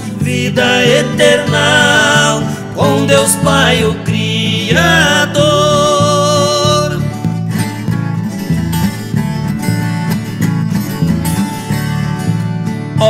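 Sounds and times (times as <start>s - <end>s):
folk guitar picking: 0.0s - 13.0s.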